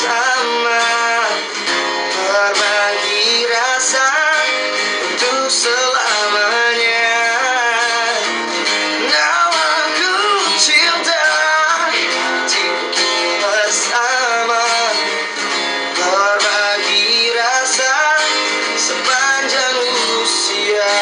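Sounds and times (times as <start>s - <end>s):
guitar accompaniment: 0.0s - 21.0s.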